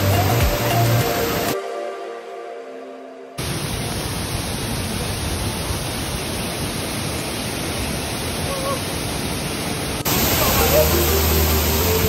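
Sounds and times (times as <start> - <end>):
waterfall rushing: 0.0 - 1.6, 3.4 - 12.0.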